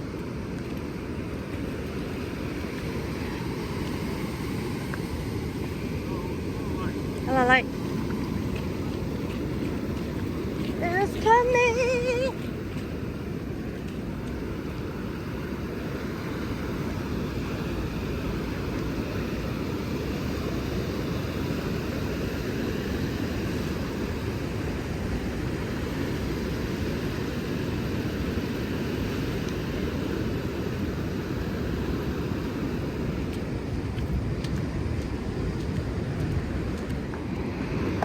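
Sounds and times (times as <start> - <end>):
ocean surf: 0.0 - 38.0
wind on microphone: 0.0 - 38.0.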